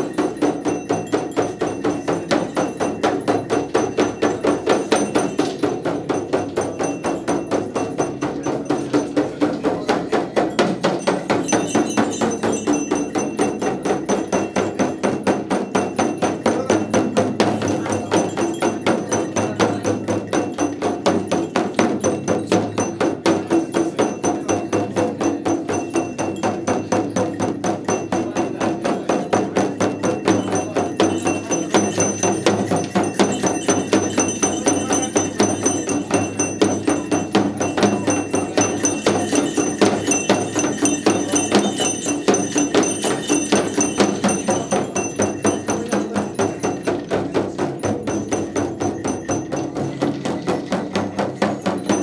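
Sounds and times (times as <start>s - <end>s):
brass bells jingling: 0.0s - 52.0s
frame drum beaten fast: 0.0s - 52.0s.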